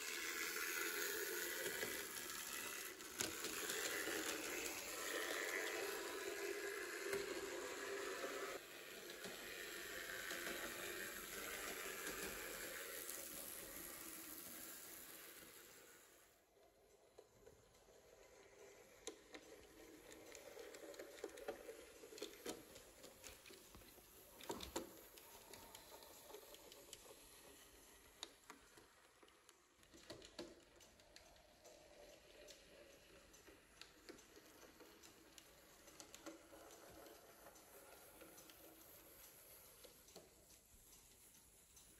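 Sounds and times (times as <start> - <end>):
model steam train running on track: 0.0 - 41.9.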